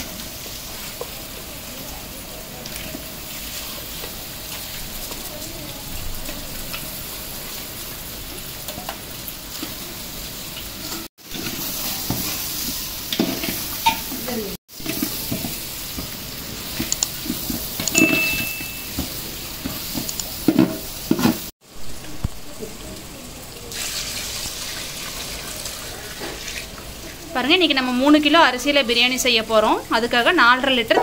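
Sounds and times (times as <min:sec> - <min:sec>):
chicken sizzling in a pot: 0:00.0 - 0:30.9.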